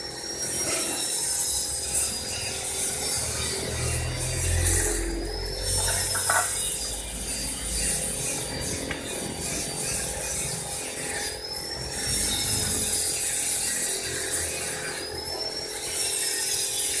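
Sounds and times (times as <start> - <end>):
sawing scraping strokes: 0.0 - 17.0.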